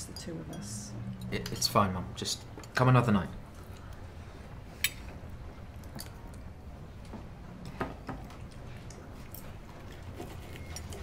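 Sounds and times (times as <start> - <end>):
faint eating sounds: 0.0 - 11.0.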